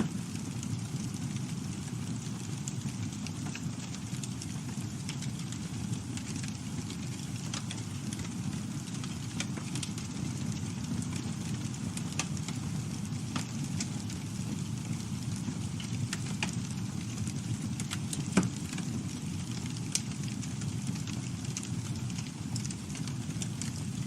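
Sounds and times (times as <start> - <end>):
campfire rumble: 0.0 - 24.0
wood crackling and popping: 0.0 - 24.0.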